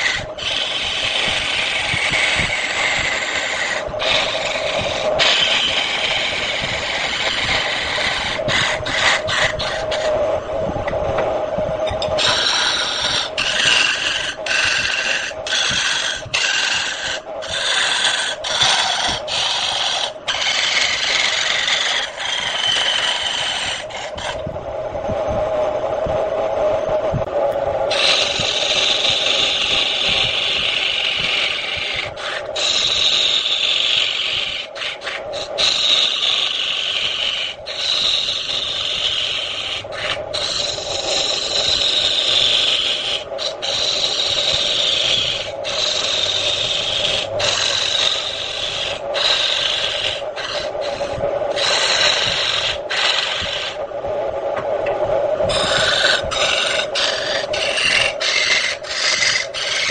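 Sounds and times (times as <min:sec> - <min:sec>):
turning tool scraping wood: 0:00.0 - 0:24.5, 0:27.9 - 0:53.8, 0:55.5 - 0:59.9
wood lathe humming: 0:00.0 - 0:24.6, 0:27.4 - 0:53.9, 0:54.5 - 0:59.9.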